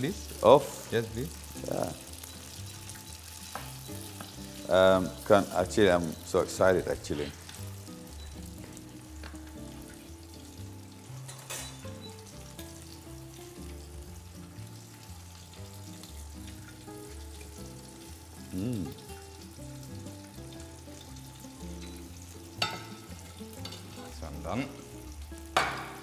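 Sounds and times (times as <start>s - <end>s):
pasta sizzling in frying pan: 0.0s - 26.0s
soft background music: 0.0s - 26.0s.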